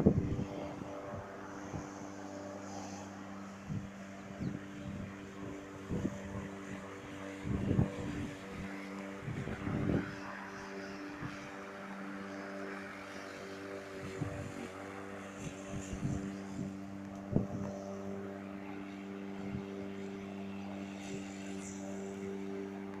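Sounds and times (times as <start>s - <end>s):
electric lawn mower humming: 0.0s - 23.0s.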